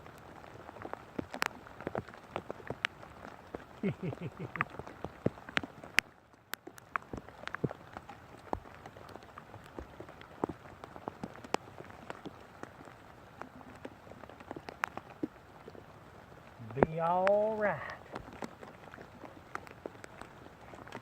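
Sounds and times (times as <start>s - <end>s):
rain hiss: 0.0s - 21.0s
raindrops tapping: 0.0s - 21.0s.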